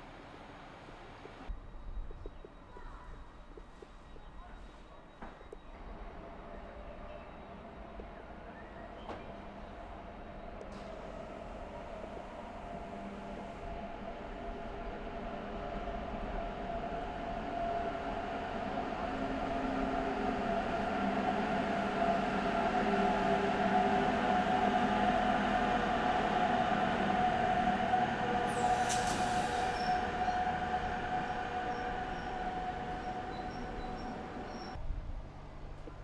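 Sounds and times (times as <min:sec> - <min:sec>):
electric train whine: 0:05.1 - 0:34.8.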